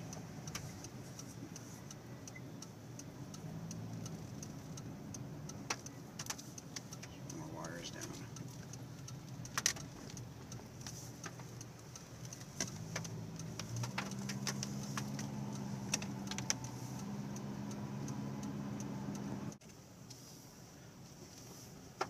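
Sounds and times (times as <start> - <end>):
sharp clicks and ticks: 0.0 - 20.2
car engine and road hum: 0.0 - 22.0.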